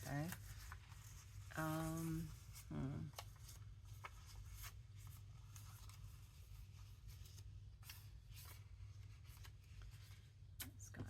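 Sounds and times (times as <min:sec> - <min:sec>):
paper rustling: 0:00.0 - 0:10.5
low steady hum: 0:00.0 - 0:11.0.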